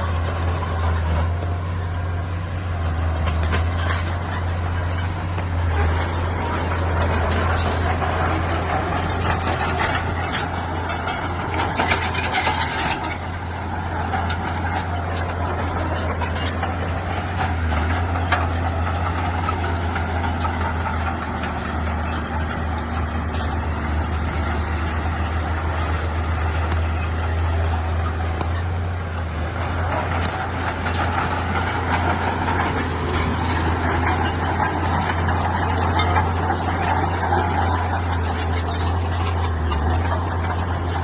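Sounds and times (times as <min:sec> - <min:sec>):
crawler tracks clanking: 0:00.0 - 0:41.0
diesel engine droning: 0:00.0 - 0:41.0.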